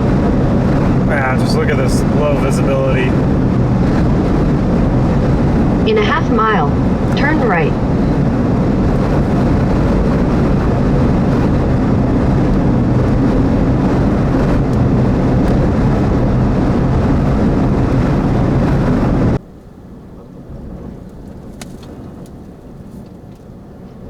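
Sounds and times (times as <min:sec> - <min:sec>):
road noise inside moving vehicle: 0:00.0 - 0:24.0.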